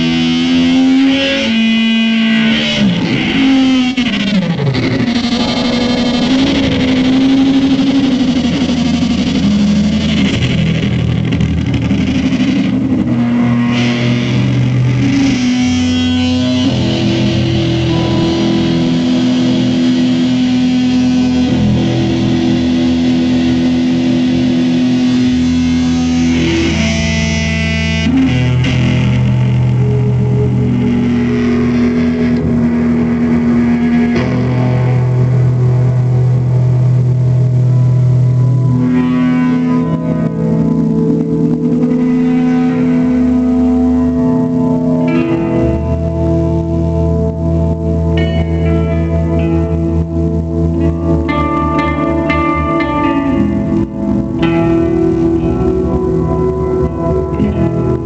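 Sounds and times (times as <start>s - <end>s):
distorted electric guitars droning: 0.0s - 58.0s.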